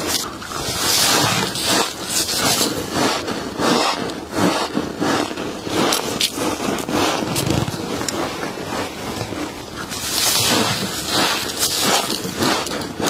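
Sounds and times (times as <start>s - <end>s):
frost being scraped and crunched: 0.0s - 13.0s.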